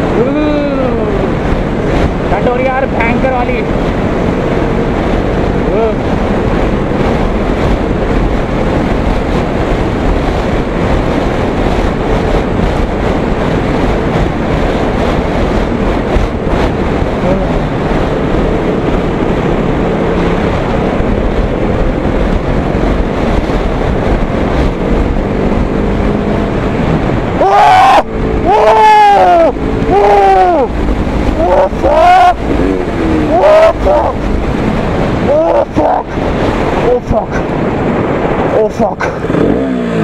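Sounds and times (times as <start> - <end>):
motorcycle road noise: 0.0 - 40.0
wind rushing on microphone: 0.0 - 40.0.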